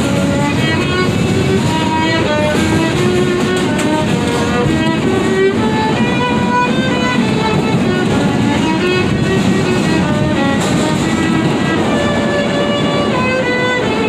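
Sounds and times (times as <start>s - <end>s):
violin melody: 0.0s - 14.0s.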